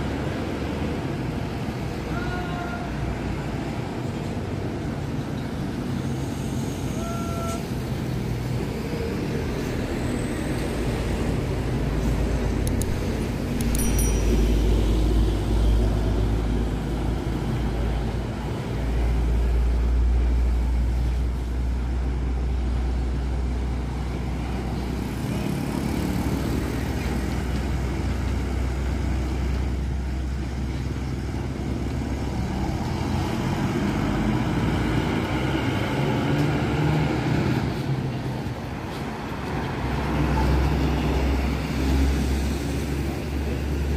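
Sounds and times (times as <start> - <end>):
diesel coach engines rumbling: 0.0 - 43.9
road traffic noise: 0.0 - 43.9.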